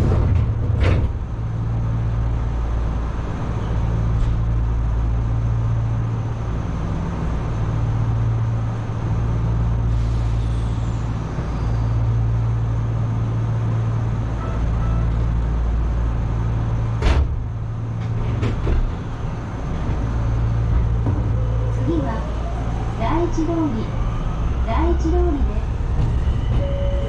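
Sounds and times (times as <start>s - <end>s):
train motors and wheels humming: 0.0s - 27.0s.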